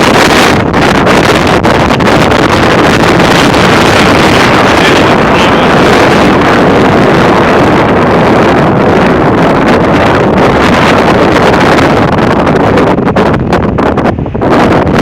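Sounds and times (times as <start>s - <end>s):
strong gusting wind on microphone: 0.0s - 15.0s.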